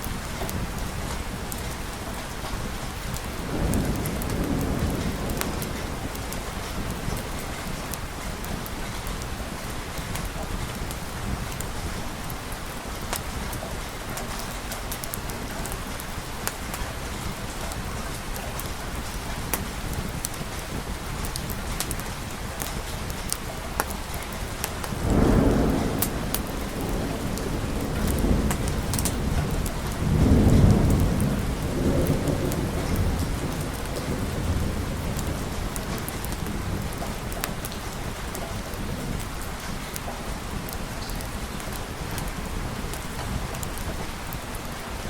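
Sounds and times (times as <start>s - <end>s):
sharp raindrop ticks: 0.0s - 45.0s
steady rain falling: 0.0s - 45.0s
thunder rumbling: 0.1s - 45.0s.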